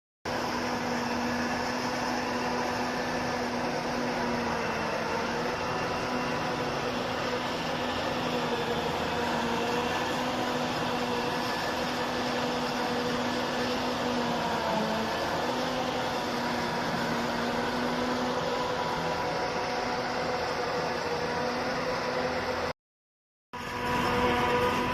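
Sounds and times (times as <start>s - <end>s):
harvester diesel engine droning: 0.3s - 22.7s, 23.6s - 24.9s.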